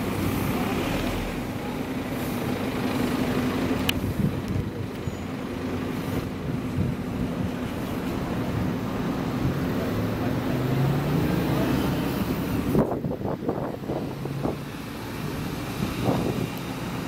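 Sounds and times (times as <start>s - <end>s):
diesel engine pulling away: 0.0s - 17.0s.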